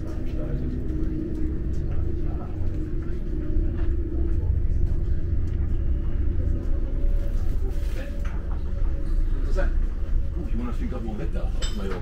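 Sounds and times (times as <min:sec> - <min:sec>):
steady hum: 0:00.0 - 0:11.8
train rumble inside carriage: 0:00.0 - 0:12.0.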